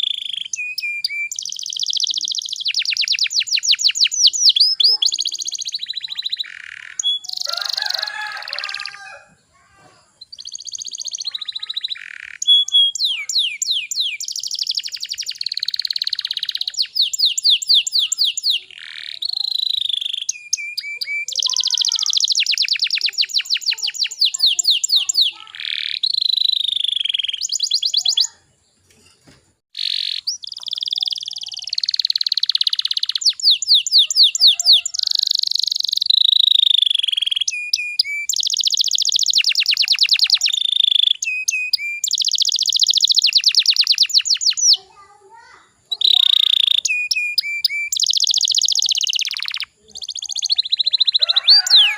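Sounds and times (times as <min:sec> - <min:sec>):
canary singing trills: 0:00.0 - 0:09.5, 0:10.1 - 0:28.9, 0:29.7 - 0:51.9.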